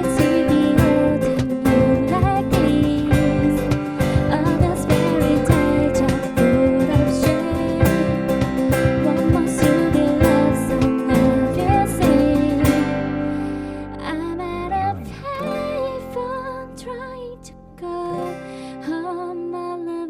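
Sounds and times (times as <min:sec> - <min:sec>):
acoustic guitar strumming: 0:00.0 - 0:18.8.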